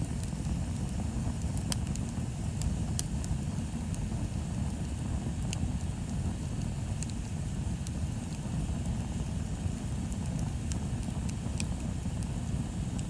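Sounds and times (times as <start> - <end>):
wood bonfire crackling: 0.0 - 13.0.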